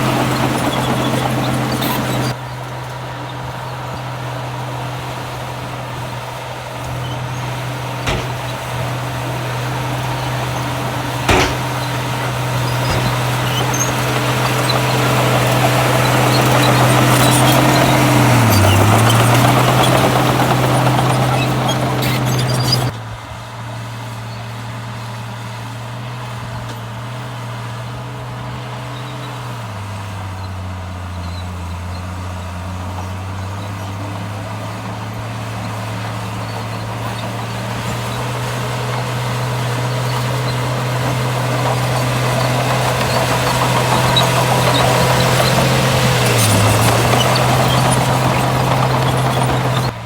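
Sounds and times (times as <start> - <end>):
heavy diesel engine running: 0.0 - 25.0, 25.8 - 50.0.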